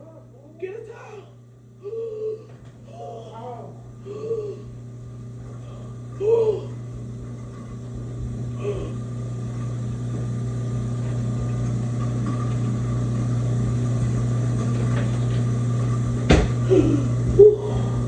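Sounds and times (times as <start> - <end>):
garbage disposal motor hum: 0.0 - 18.0.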